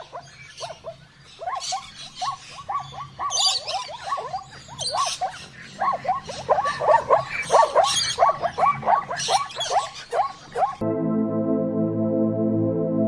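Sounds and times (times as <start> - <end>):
animals squeaking and yelping: 0.0 - 10.8.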